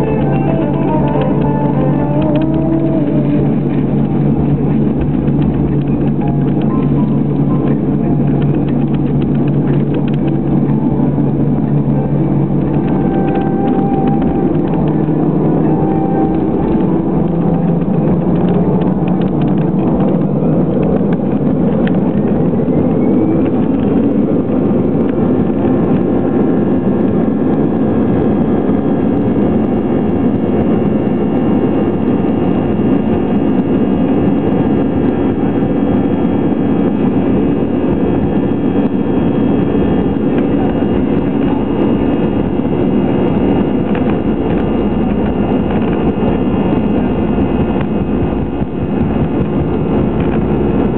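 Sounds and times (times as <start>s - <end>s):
high-toned engine whine: 0.0s - 50.9s
jet engine rumble in cabin: 0.0s - 50.9s.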